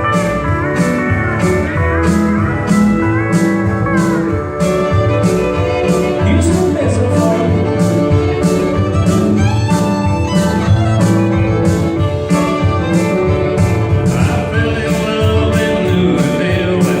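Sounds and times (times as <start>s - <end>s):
fiddle: 0.0s - 17.0s
guitars: 0.0s - 17.0s
steady drum beat: 0.0s - 17.0s.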